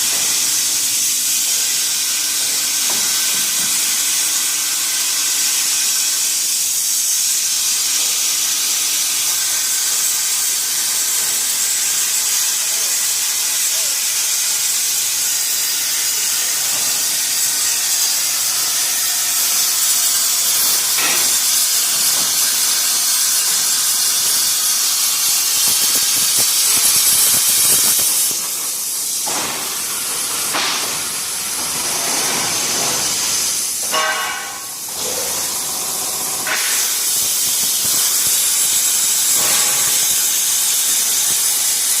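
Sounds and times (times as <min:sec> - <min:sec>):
plasma torch arc hissing: 0:00.0 - 0:42.0.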